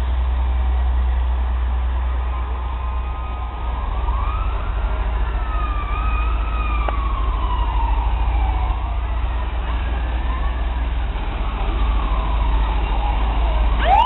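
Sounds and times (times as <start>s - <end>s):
fire truck siren wailing: 0.0s - 14.0s.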